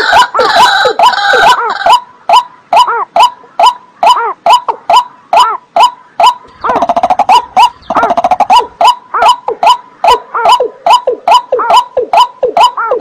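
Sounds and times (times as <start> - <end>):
bird calling hollow notes: 0.0 - 13.0.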